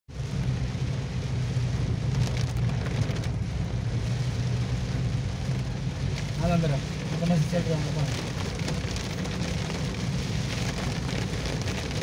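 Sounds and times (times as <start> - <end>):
heavy rain on a windscreen: 0.1 - 12.0
vehicle driving on wet road: 0.1 - 12.0.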